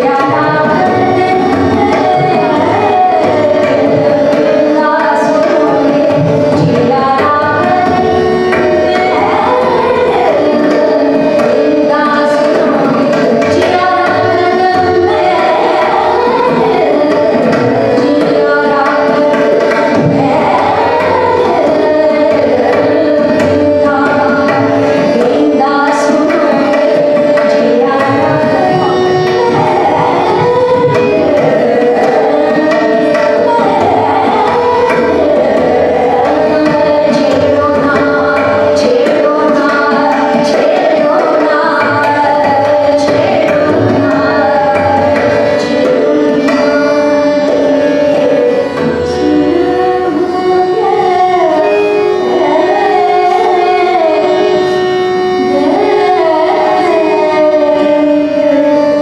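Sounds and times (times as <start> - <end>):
tabla: 0.0 - 59.0
woman singing: 0.0 - 59.0
held drone: 0.2 - 59.0.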